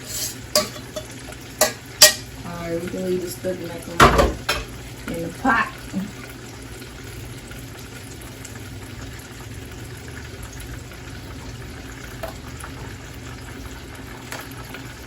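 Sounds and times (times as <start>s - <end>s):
food hissing on a stovetop: 0.0s - 4.0s, 4.7s - 15.0s.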